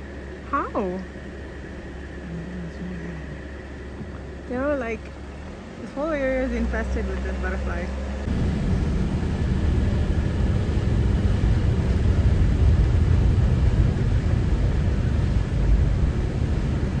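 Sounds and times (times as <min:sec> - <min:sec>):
vehicle low road rumble: 0:00.0 - 0:17.0.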